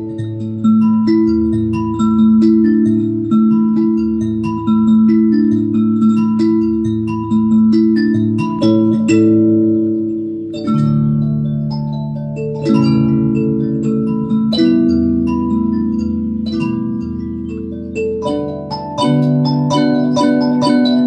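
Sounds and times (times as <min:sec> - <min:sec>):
mbira playing chords: 0:00.0 - 0:21.0.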